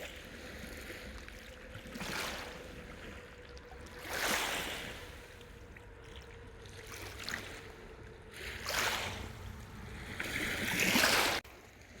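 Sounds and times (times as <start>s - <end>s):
small waves washing on shore: 0.0s - 12.0s
water splashes: 0.0s - 12.0s.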